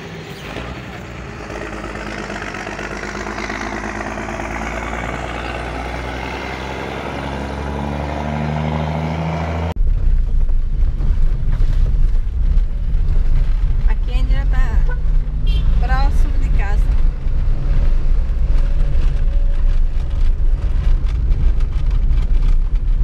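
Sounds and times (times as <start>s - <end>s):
car driving on dirt road: 0.0s - 23.0s
vehicle engine running: 0.0s - 23.0s.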